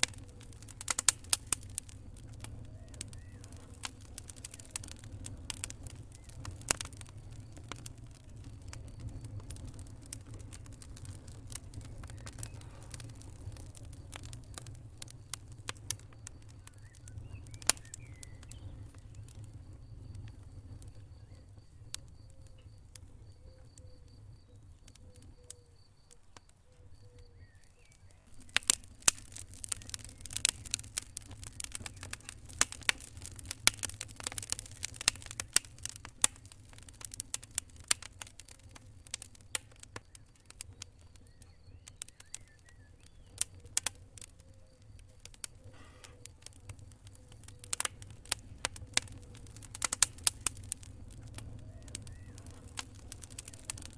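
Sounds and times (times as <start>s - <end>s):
low rumble of flames: 0.0s - 53.9s
wood fire crackling: 0.0s - 53.9s.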